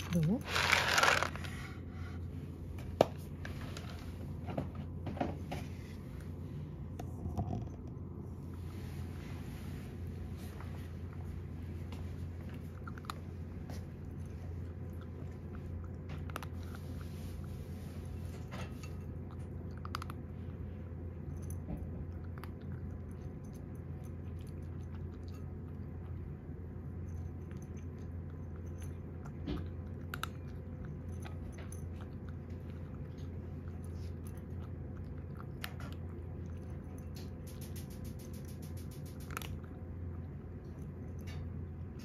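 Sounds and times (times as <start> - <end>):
cat crunching dry kibble: 0.0 - 2.2, 10.0 - 42.0
low hum: 0.0 - 42.0.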